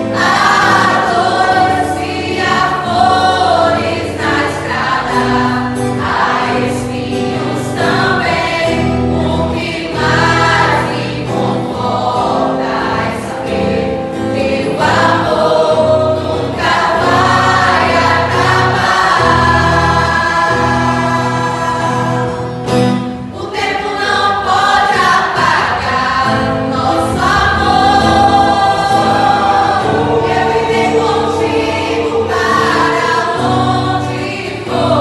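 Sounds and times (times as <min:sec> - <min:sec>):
choir singing a hymn: 0:00.0 - 0:35.0.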